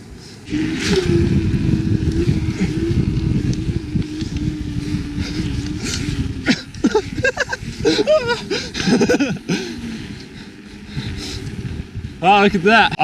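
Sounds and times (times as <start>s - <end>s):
mountain bike rolling on trail: 0.0s - 13.0s
riders whooping and shouting: 0.0s - 13.0s.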